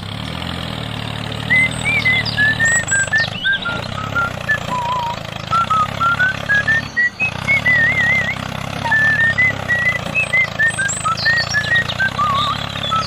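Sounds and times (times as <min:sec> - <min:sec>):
toy tractor engine running: 0:00.0 - 0:13.0
high chirping notes: 0:01.4 - 0:13.0.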